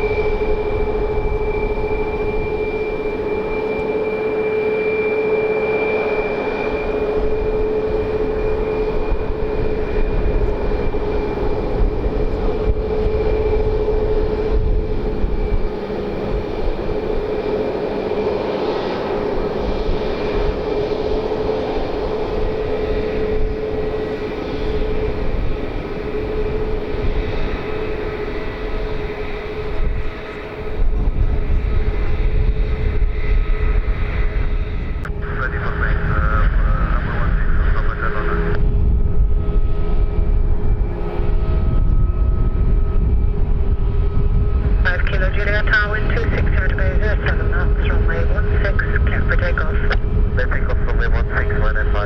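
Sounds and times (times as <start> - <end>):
airliner engines running: 0.0 - 52.0.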